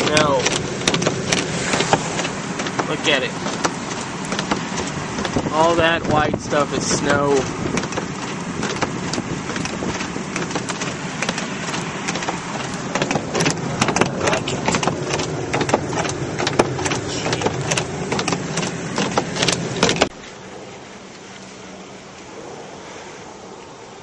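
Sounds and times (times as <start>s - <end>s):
ice crackling under tyres: 0.0s - 20.4s
vehicle cabin low rumble: 0.0s - 24.0s.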